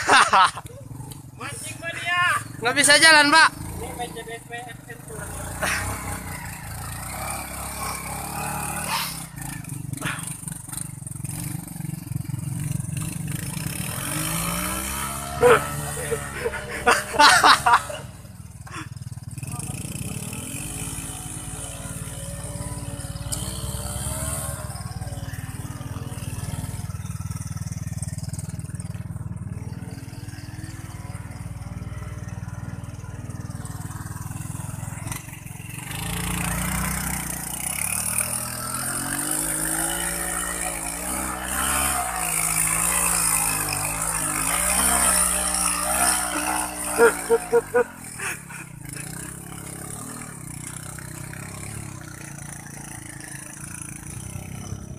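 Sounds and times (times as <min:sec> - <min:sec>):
small motorcycle engines revving: 0:00.0 - 0:54.9.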